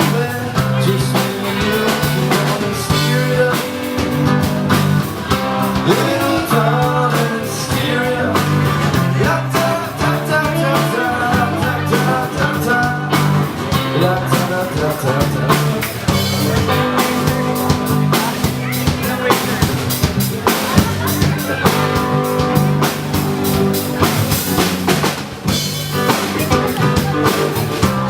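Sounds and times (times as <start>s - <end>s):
drum kit beat: 0.0s - 28.0s
electric guitar lines: 0.0s - 28.0s
steady bass line: 0.0s - 28.0s.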